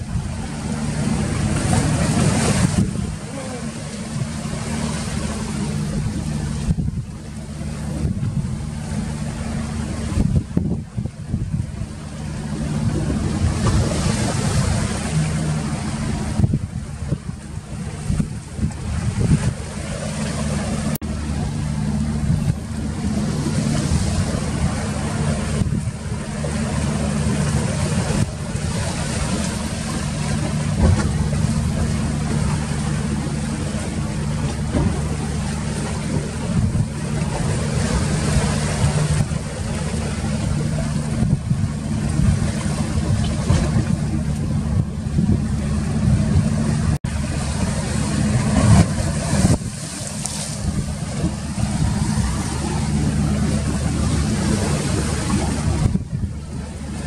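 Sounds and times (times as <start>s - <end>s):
engine droning: 0.0s - 57.0s
steady rushing noise: 0.0s - 57.0s.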